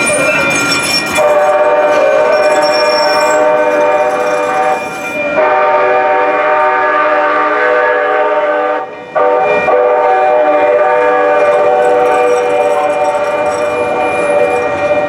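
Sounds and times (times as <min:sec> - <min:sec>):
train horn blasts: 0:01.2 - 0:15.0.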